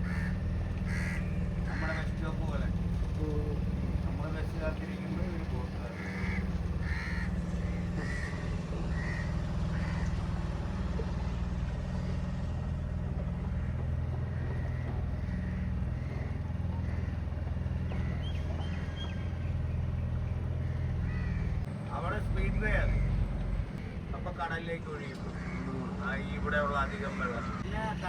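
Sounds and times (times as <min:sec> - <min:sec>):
crows cawing: 0:00.0 - 0:21.7, 0:22.4 - 0:24.0, 0:25.1 - 0:27.8
boat engine humming: 0:00.0 - 0:28.0.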